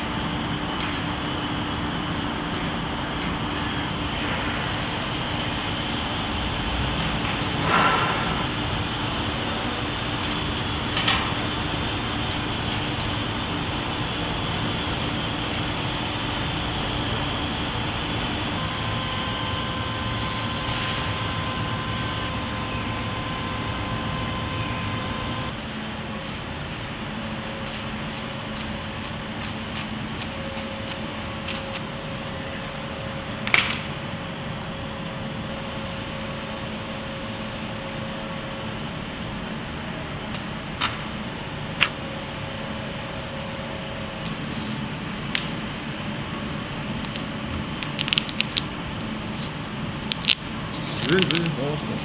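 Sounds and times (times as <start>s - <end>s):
factory hall hum and rushing: 0.0s - 52.0s.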